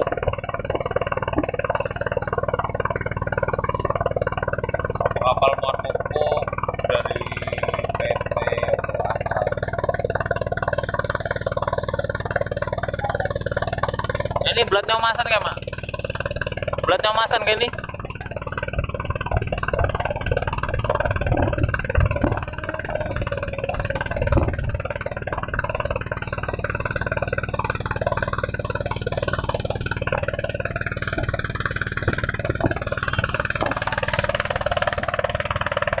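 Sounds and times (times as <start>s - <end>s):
motorboat engine humming: 0.0s - 36.0s
noisy water wash: 0.0s - 36.0s.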